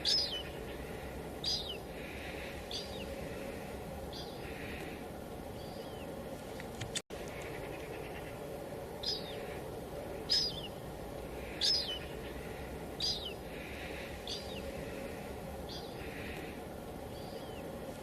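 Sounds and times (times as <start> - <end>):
hiss of light drizzle: 0.0 - 18.0.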